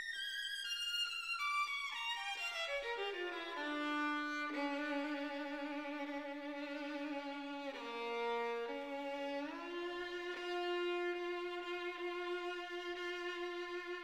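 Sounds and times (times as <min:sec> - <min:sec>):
solo violin slow melody: 0:00.0 - 0:14.0.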